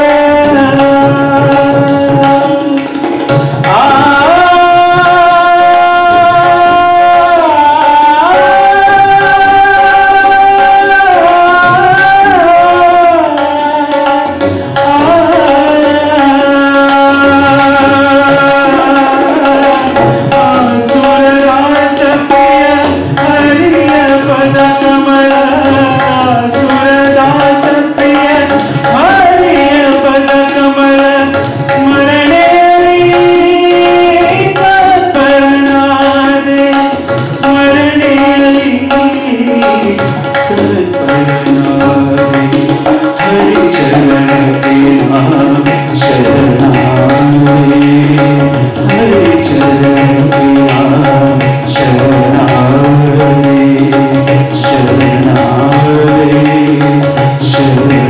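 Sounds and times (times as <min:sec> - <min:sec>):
man singing: 0:00.0 - 0:58.0
tabla strokes: 0:00.0 - 0:58.0.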